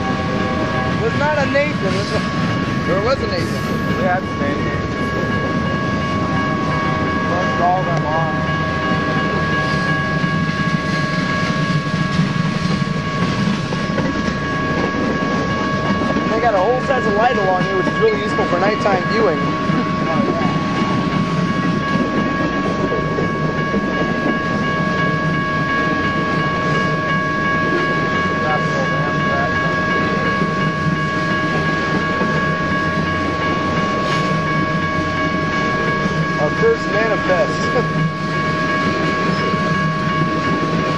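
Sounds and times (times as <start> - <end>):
freight train rumbling past: 0.0 - 40.9
high-pitched ring: 0.0 - 40.9.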